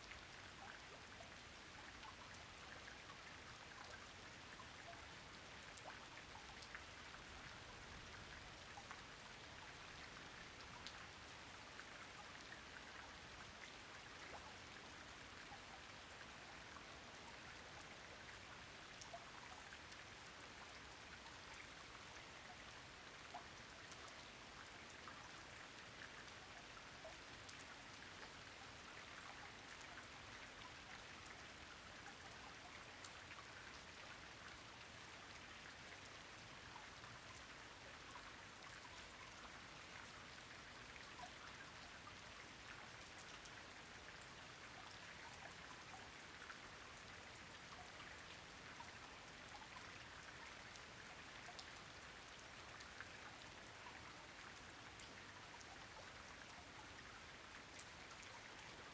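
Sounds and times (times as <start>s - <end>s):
raindrops ticking on a surface: 0.0s - 58.9s
steady hiss of rain: 0.0s - 58.9s.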